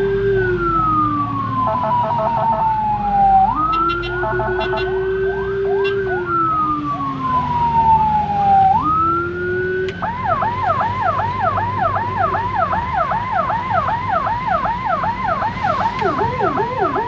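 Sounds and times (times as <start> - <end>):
ambulance siren wailing and yelping: 0.0 - 17.0
second lower-pitched siren: 0.0 - 17.0
vehicle engines and road noise: 0.0 - 17.0.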